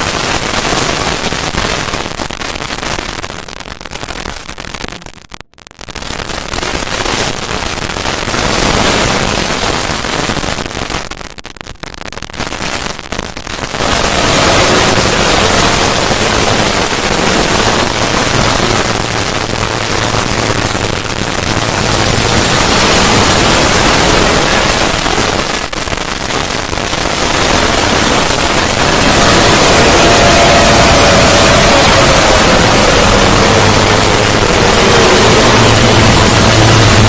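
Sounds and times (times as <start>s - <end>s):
harsh static-like noise: 0.0s - 37.0s.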